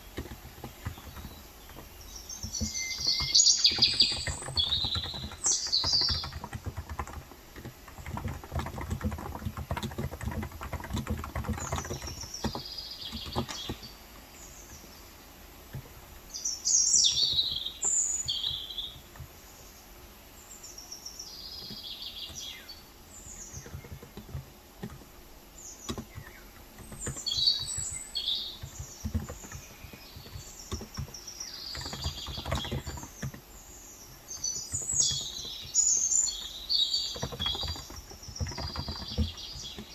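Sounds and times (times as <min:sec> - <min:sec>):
typing on keyboard: 0:00.0 - 0:14.0, 0:17.0 - 0:19.3, 0:23.3 - 0:39.9
birds chirping: 0:00.0 - 0:39.9.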